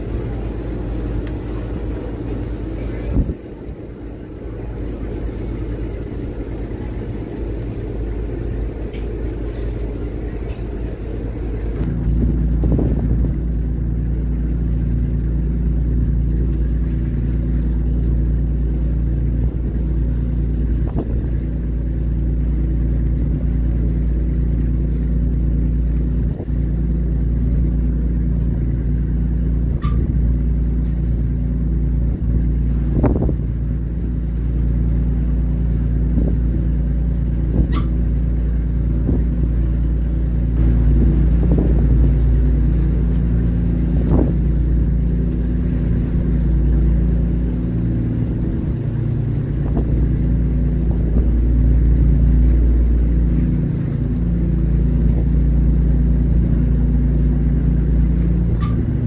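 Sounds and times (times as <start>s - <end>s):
boat diesel engine drone: 0.0s - 59.0s
water noise: 0.0s - 59.0s
wind: 0.0s - 59.0s.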